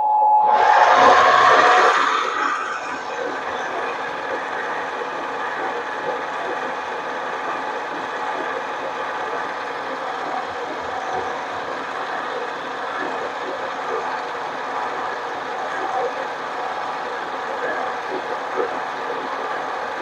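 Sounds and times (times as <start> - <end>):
lathe motor whirring: 0.5 - 20.0.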